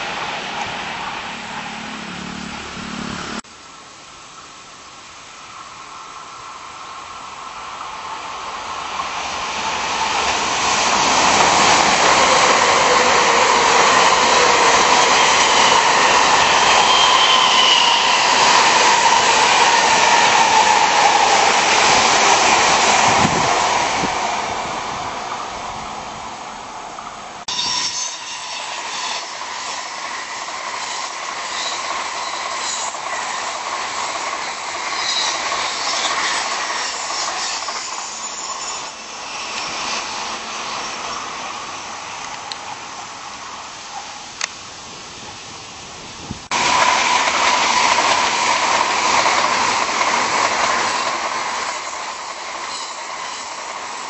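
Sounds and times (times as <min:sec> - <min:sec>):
bullet train passing at speed: 0:00.0 - 0:03.4, 0:05.3 - 0:54.0
rattling train noise: 0:00.0 - 0:03.4, 0:05.4 - 0:54.0.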